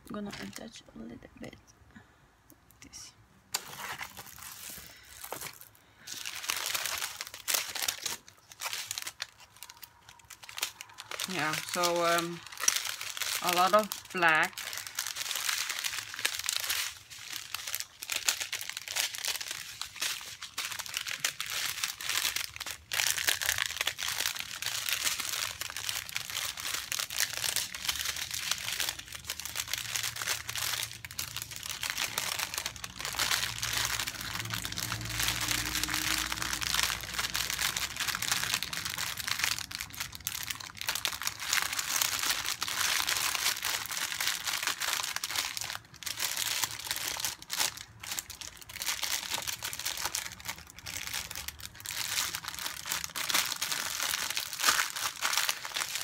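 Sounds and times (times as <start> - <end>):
plastic bags crinkling: 3.5 - 56.0.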